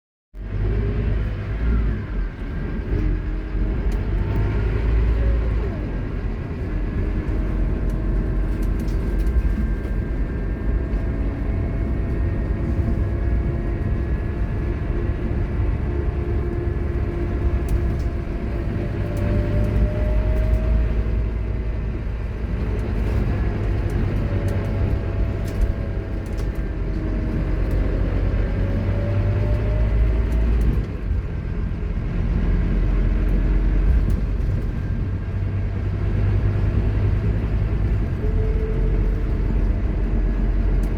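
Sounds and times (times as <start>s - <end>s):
low engine rumble: 0.4s - 40.9s.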